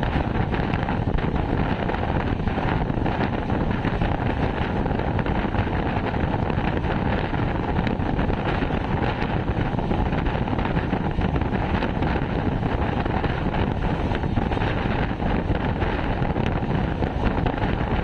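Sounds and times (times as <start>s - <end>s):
moving train rumble: 0.0s - 18.0s
wind buffeting microphone: 0.0s - 18.0s.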